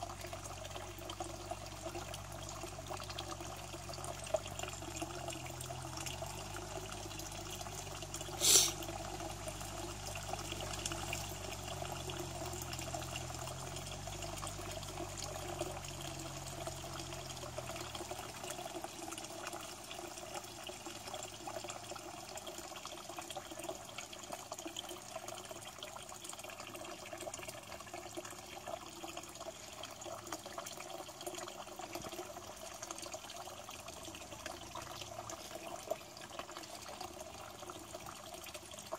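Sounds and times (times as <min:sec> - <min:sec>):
water pouring from hose into pond: 0:00.0 - 0:38.9.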